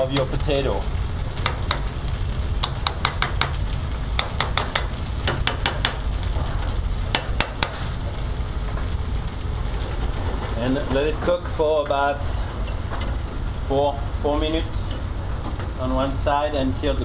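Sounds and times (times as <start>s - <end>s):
potatoes sizzling in a pan: 0.0s - 17.0s
steady low rumble: 0.0s - 17.0s.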